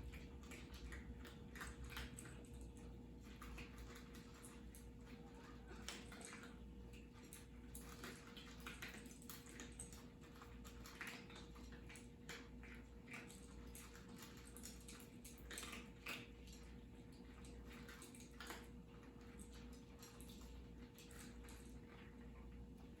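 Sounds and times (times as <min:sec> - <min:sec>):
cats chewing: 0:00.0 - 0:23.0
faint steady hum: 0:00.0 - 0:23.0.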